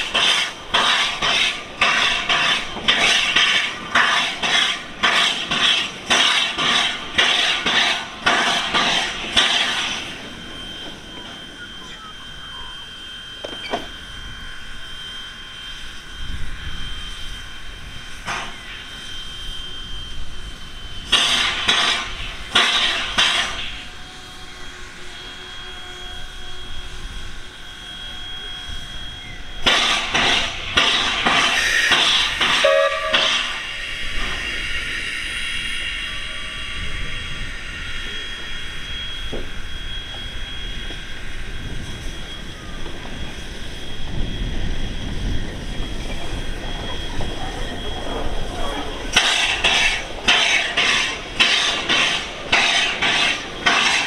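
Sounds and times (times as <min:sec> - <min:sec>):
locomotive exhaust beats: 0:00.0 - 0:54.0
steam hissing: 0:00.0 - 0:54.0.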